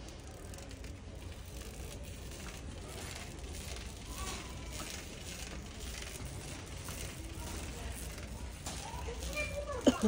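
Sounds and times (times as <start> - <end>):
shopping cart rattling: 0.0 - 10.0.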